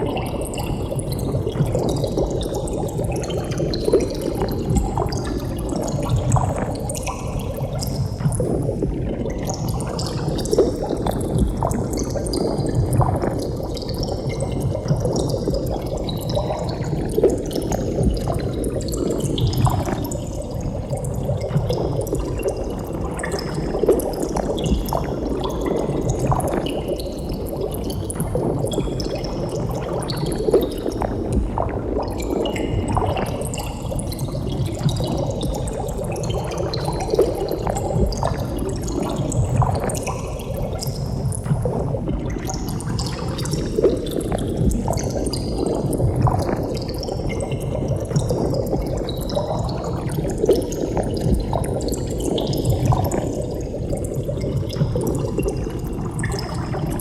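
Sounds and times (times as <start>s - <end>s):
underwater bubbling: 0.0s - 57.0s.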